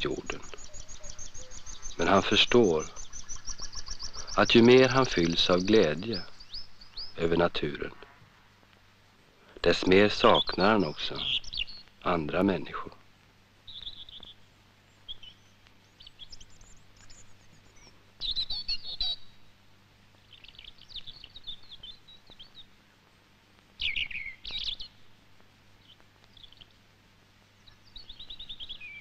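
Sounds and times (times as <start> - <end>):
birds chirping and singing: 0.0 - 8.1, 9.6 - 12.8, 13.7 - 19.5, 20.2 - 22.8, 23.8 - 25.1, 25.8 - 26.8, 27.6 - 29.0
faint low hum: 0.0 - 29.0.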